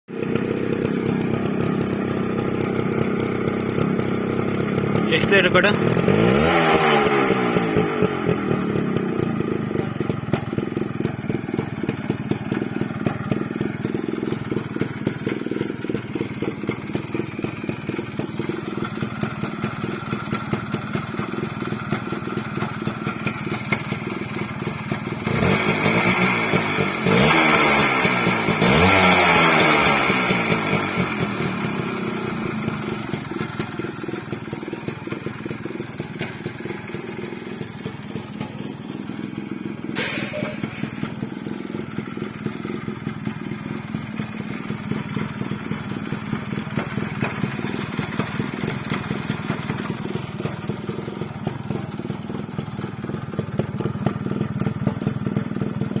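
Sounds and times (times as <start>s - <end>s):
motorcycle engine idling: 0.1s - 56.0s.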